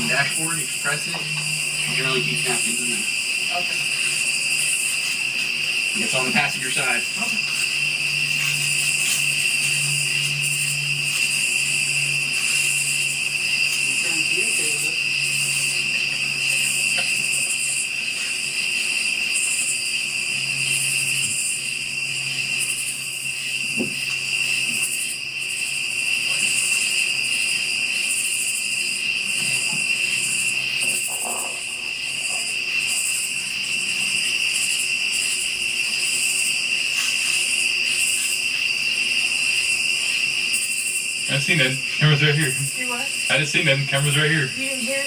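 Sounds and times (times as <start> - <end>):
night insects chirring: 0.0 - 45.0.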